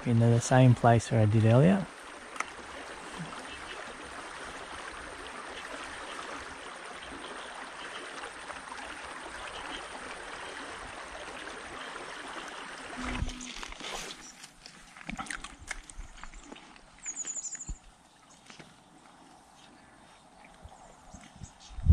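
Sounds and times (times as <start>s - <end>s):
stream running over gravel: 0.0s - 19.6s.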